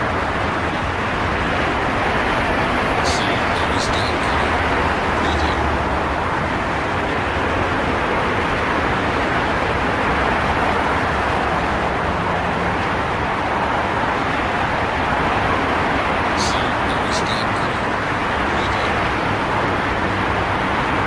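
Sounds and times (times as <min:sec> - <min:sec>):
highway traffic: 0:00.0 - 0:21.0.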